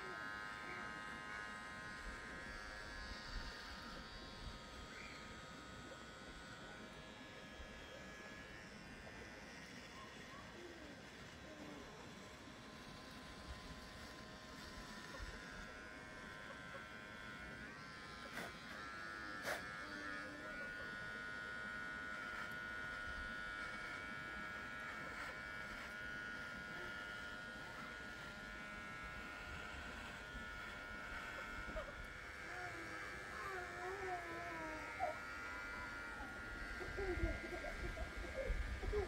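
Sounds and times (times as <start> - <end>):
electric shaver buzzing: 0.0 - 39.0.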